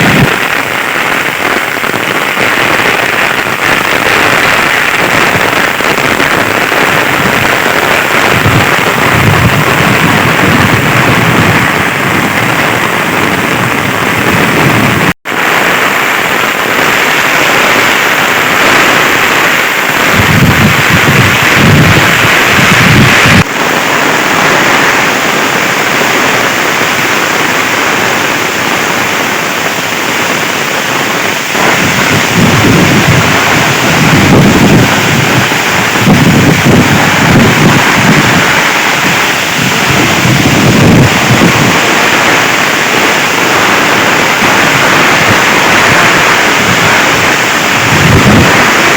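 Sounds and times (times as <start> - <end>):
heavy rain pouring: 0.0 - 48.9
wind gusting on microphone: 0.0 - 48.9.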